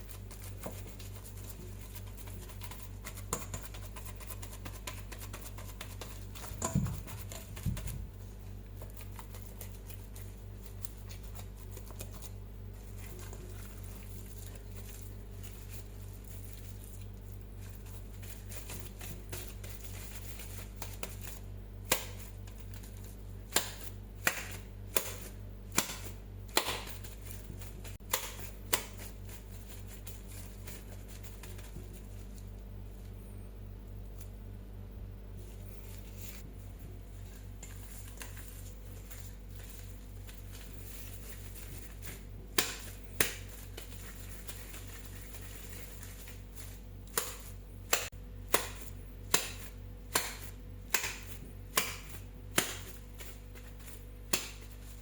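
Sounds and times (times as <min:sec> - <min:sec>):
hands slapping meat patties: 0:00.0 - 0:32.0, 0:37.5 - 0:55.0
steady low hum: 0:00.0 - 0:55.0.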